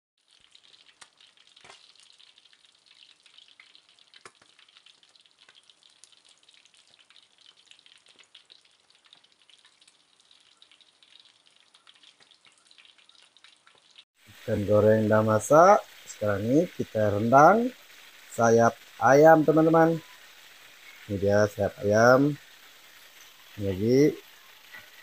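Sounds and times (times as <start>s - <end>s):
fish sizzling in hot oil: 0.2s - 25.0s.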